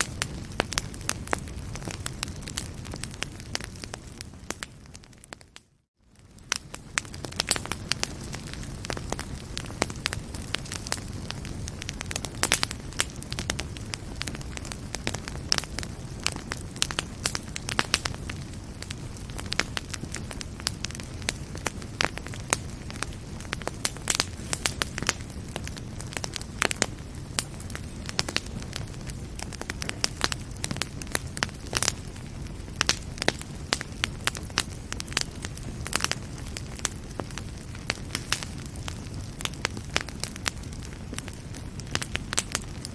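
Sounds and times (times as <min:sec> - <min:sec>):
fireplace fire crackling: 0:00.0 - 0:42.9
low rumble of burning: 0:00.0 - 0:42.9.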